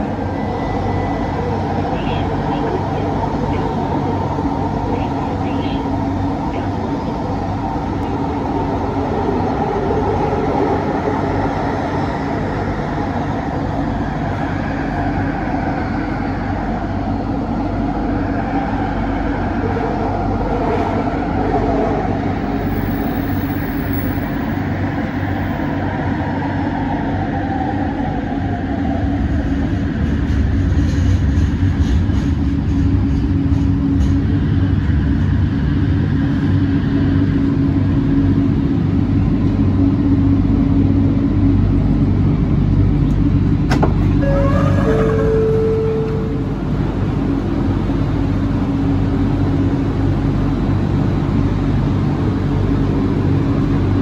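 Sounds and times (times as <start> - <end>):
train rumbling inside passenger car: 0.0 - 54.0.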